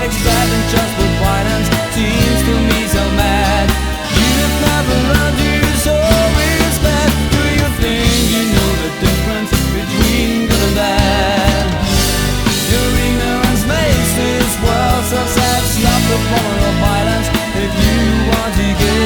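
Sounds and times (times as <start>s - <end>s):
bending lead melody: 0.0s - 19.0s
pop-rock band playing: 0.0s - 19.0s.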